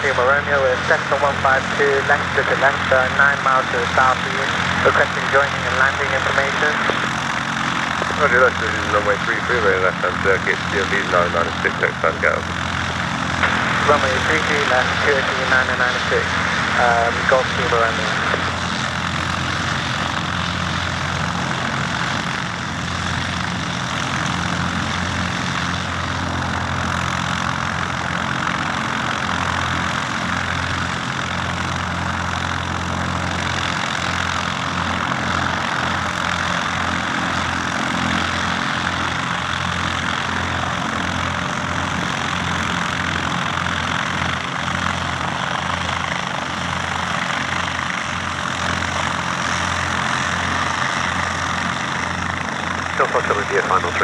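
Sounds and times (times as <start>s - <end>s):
propeller airplane engine: 0.0s - 54.0s.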